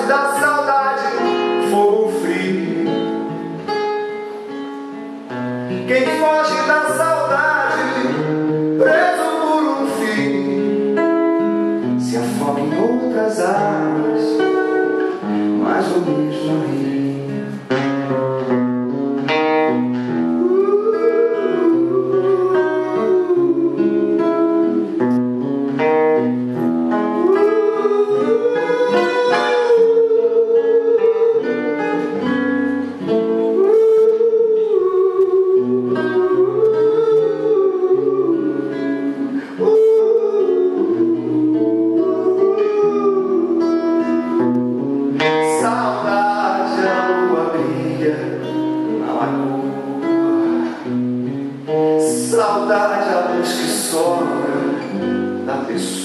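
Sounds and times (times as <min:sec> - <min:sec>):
plucked acoustic guitar: 0:00.0 - 0:56.0
man humming a melody: 0:06.0 - 0:51.0.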